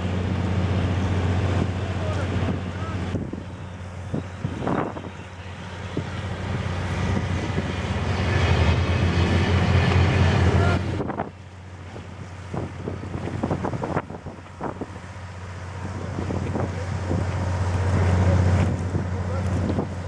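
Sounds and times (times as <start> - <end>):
boat diesel engine humming: 0.0 - 20.0
water churning: 0.0 - 20.0
wind buffeting microphone: 0.2 - 20.0.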